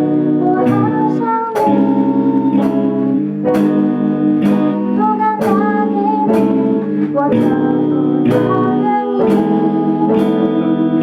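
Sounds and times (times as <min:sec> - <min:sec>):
vocal percussion beat: 0:00.0 - 0:11.0.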